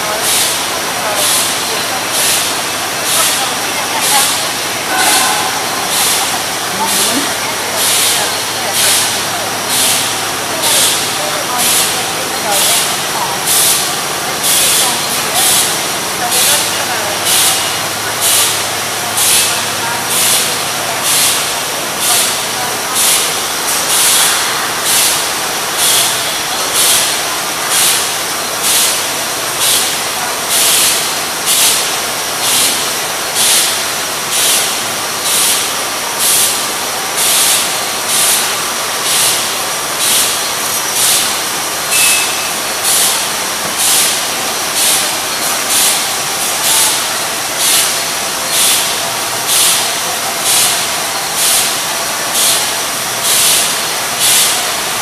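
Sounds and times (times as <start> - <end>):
machine clatter: 0.0 - 55.0.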